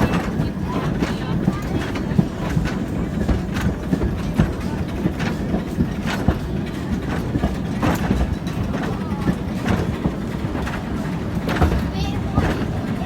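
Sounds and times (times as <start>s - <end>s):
people's voices: 0.0s - 13.0s
steam train rumbling: 0.0s - 13.0s
wheels clicking and knocking: 0.0s - 13.0s.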